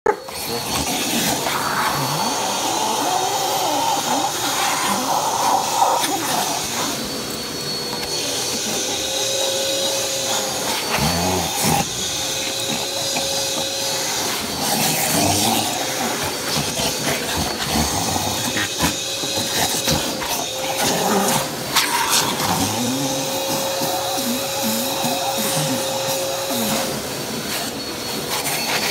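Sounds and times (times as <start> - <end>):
shop vac running with whine: 0.1 - 28.9.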